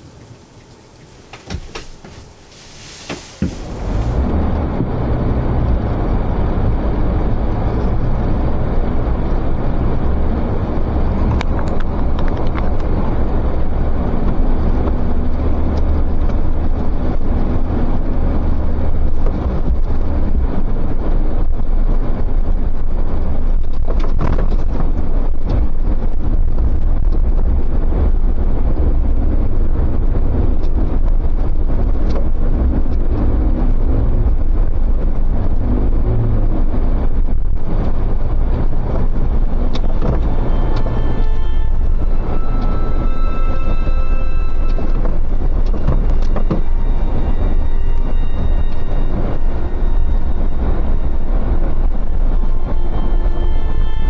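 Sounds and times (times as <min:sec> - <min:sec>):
car engine and road drone: 0:00.0 - 0:54.0
wind buffeting microphone: 0:03.1 - 0:53.8.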